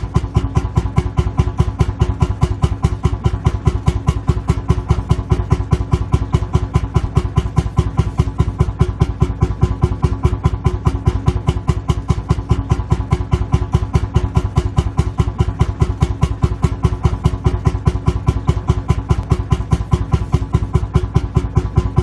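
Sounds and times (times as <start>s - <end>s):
tractor engine idling: 0.0s - 22.0s.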